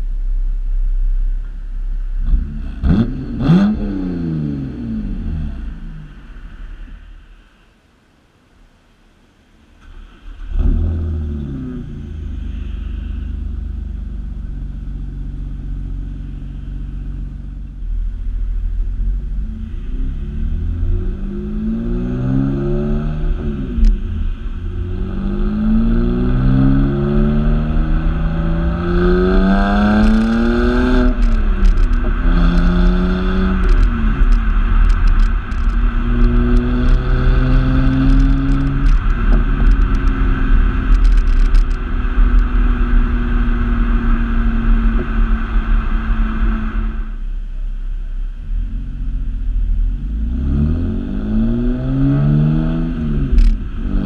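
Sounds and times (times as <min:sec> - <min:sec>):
car engine through loud exhaust: 0:00.0 - 0:54.0
low wind rumble: 0:00.0 - 0:54.0.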